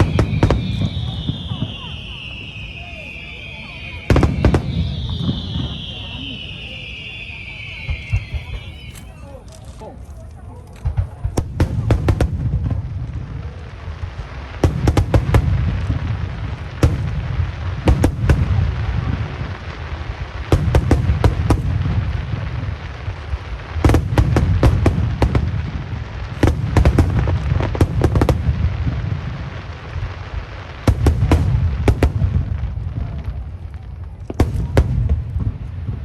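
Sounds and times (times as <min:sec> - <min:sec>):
fireworks booming and crackling: 0:00.0 - 0:36.0.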